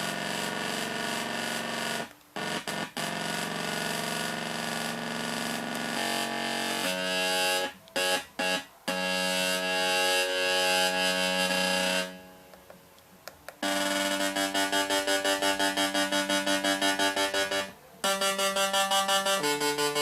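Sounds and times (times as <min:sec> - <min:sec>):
buzzy synthesizer tones: 0:00.0 - 0:12.5, 0:13.6 - 0:20.0.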